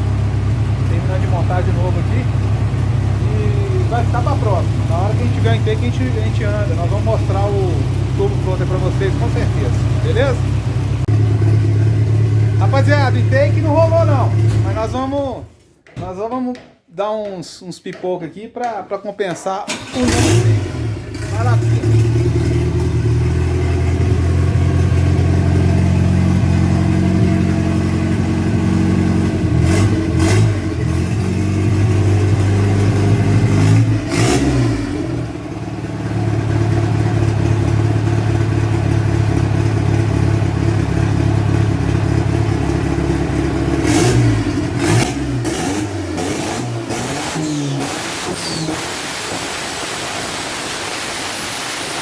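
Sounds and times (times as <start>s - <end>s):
car engine revving: 0.0s - 15.2s, 19.7s - 52.0s
exhaust pops crackling: 0.0s - 15.2s, 15.8s - 52.0s.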